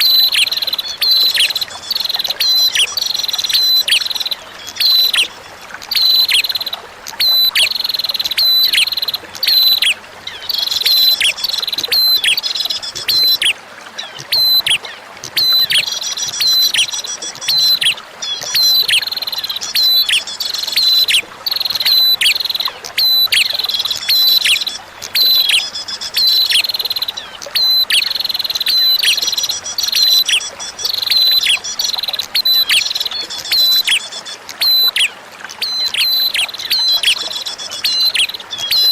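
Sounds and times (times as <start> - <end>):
bird chirping song: 0.0 - 38.9
running water trickling: 0.0 - 38.9.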